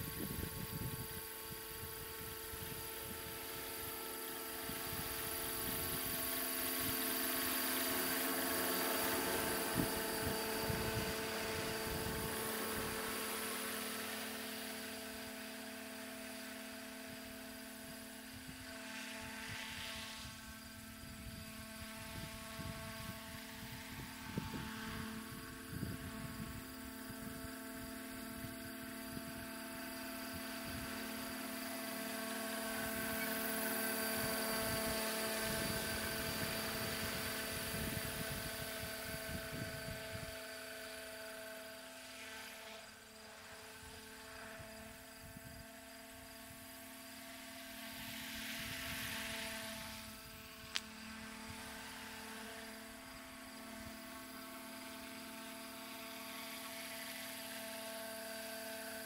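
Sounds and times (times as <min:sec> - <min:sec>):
model helicopter rotor whine: 0:00.0 - 0:59.0.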